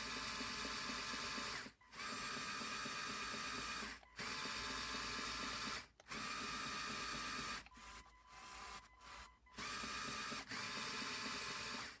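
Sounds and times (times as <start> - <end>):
small electric motor whirring gears: 0.0 - 12.0.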